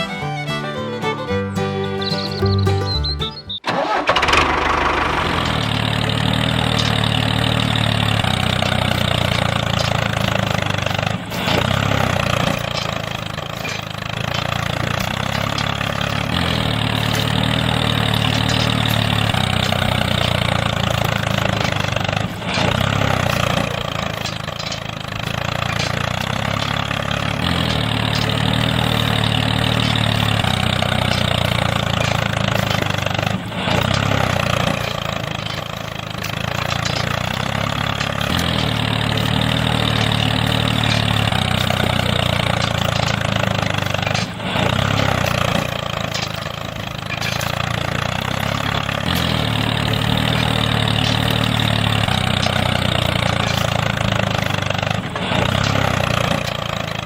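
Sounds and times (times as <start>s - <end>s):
small engine running: 0.0s - 2.3s, 3.9s - 13.2s, 14.0s - 24.2s, 25.0s - 46.0s, 47.4s - 57.0s.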